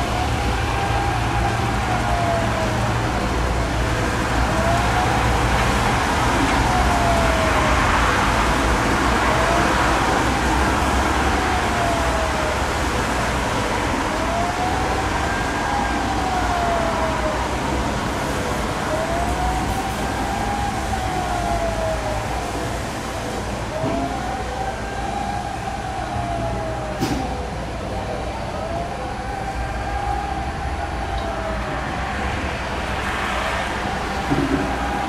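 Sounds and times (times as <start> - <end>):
street traffic: 0.0 - 35.0
warning sirens wailing: 0.0 - 35.0.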